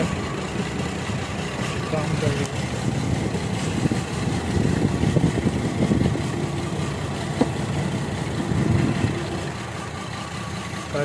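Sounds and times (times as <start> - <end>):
engine idling roughly: 0.0 - 11.0.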